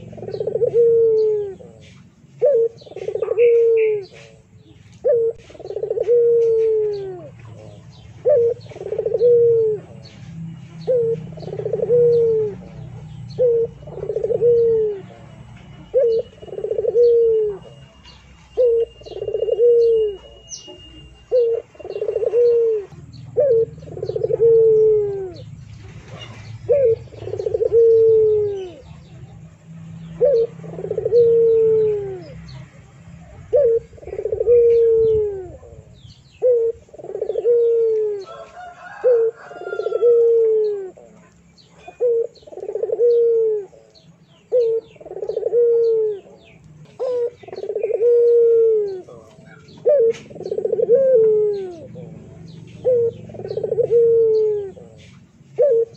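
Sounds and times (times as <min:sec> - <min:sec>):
birds chirping faintly: 0:00.0 - 0:55.9.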